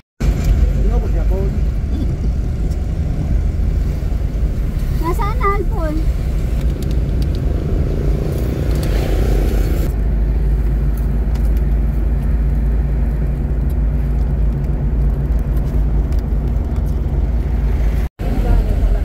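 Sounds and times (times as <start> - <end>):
car engine and tyres rumbling: 0.2 - 19.0.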